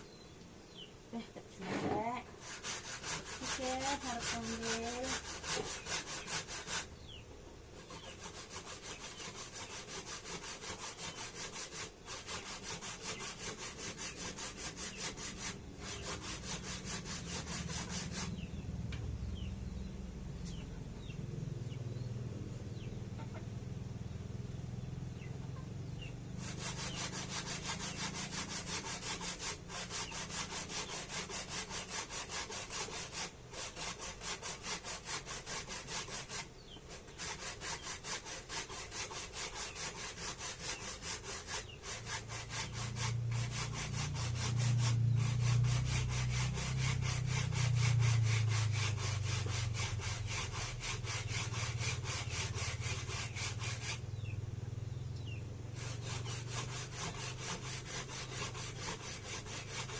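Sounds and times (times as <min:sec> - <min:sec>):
food grating on a grater: 0:01.6 - 0:06.9, 0:07.8 - 0:18.6, 0:25.9 - 0:54.3, 0:55.8 - 0:59.9.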